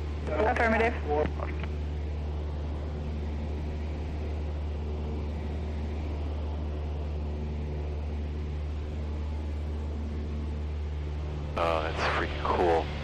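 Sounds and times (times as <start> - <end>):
plane engine and propeller droning: 0.0 - 13.0.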